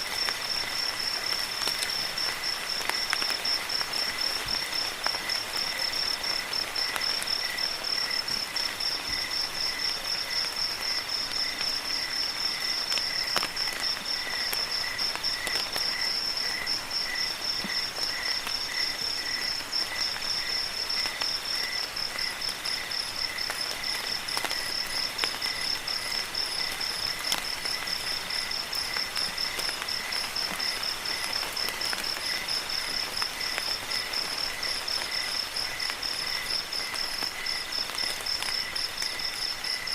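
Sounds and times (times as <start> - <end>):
crickets trilling: 0.0 - 39.9
rain hiss: 0.0 - 39.9.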